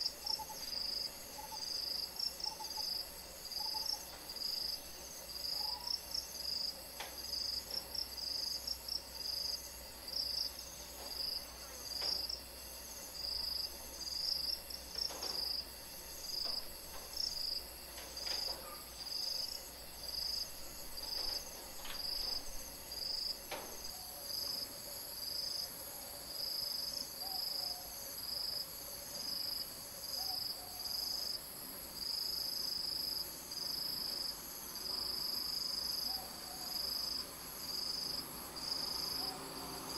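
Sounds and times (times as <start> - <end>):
insects chirping in chorus: 0.0 - 39.9.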